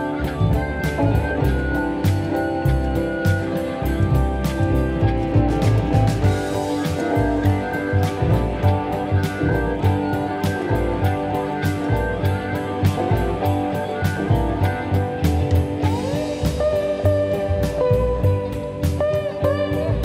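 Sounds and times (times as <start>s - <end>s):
guitar holding notes: 0.0s - 20.0s
steady drum beat: 0.0s - 20.0s.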